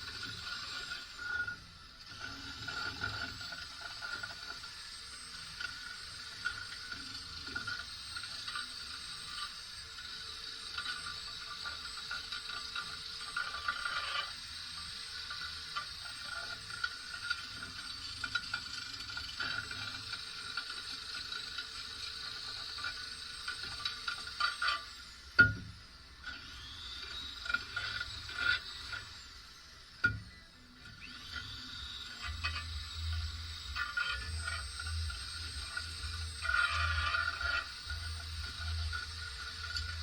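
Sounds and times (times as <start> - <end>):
faint steady whine: 0.0 - 40.0.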